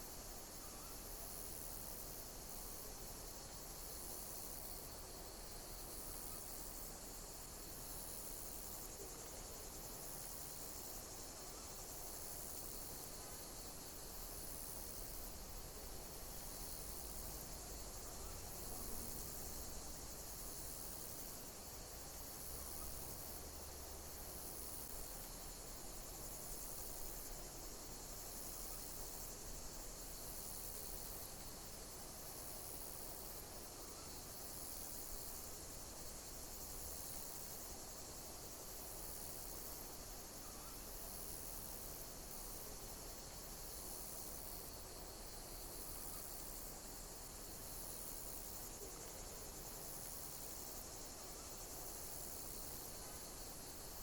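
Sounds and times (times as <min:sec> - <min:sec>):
high hiss of insects: 0:00.0 - 0:54.0
insects chirping high-pitched: 0:00.0 - 0:54.0.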